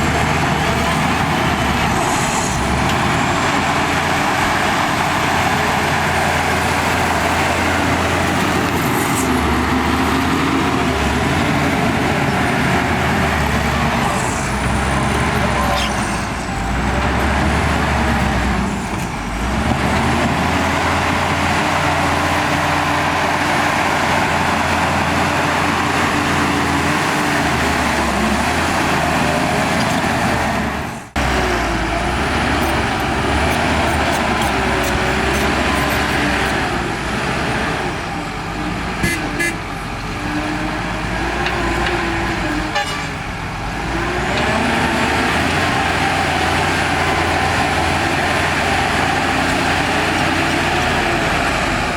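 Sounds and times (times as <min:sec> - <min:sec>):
heavy machinery diesel engine: 0:00.0 - 0:51.9.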